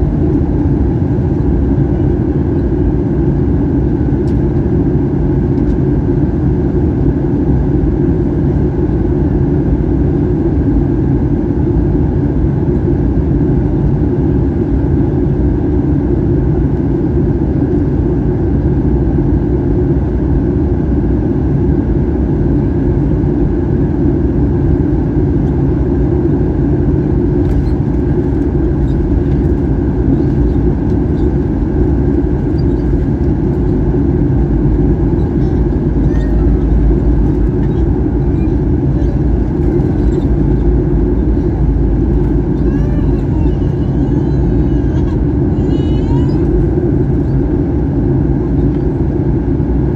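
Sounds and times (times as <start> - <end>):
jet engines droning: 0.0 - 49.9.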